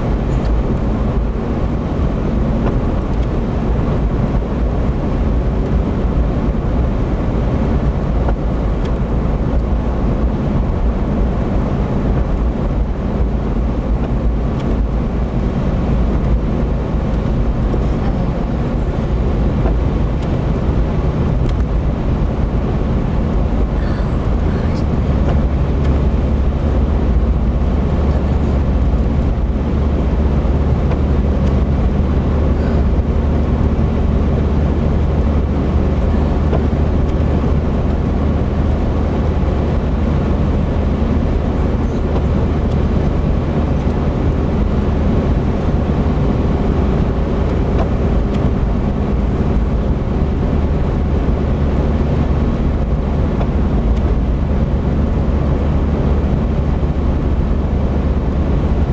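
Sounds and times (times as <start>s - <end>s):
tyres on slushy road: 0.0s - 58.9s
vehicle engine rumble: 0.0s - 58.9s.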